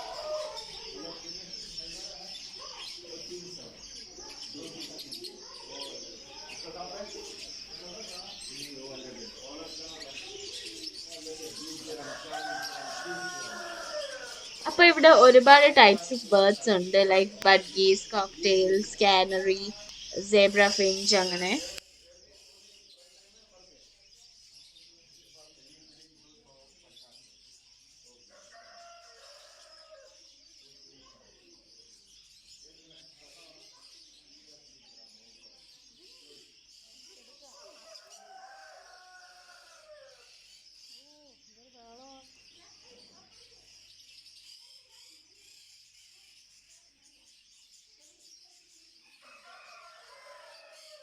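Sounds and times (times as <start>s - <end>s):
small birds twittering: 0.0s - 51.0s.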